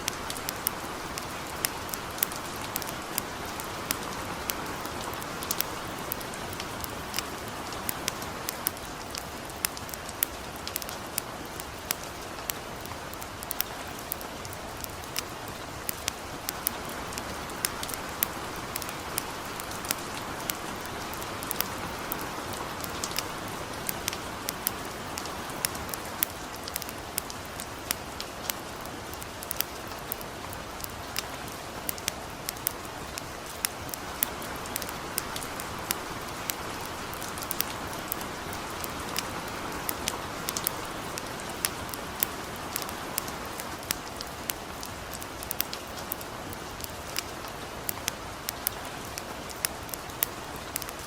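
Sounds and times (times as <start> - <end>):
campfire crackling: 0.0 - 51.0
light rain falling: 0.0 - 51.0.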